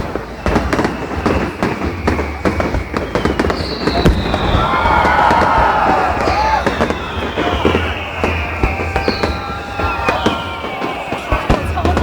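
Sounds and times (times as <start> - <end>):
fireworks bangs and crackles: 0.0 - 12.0
high falling whistle: 0.0 - 12.0.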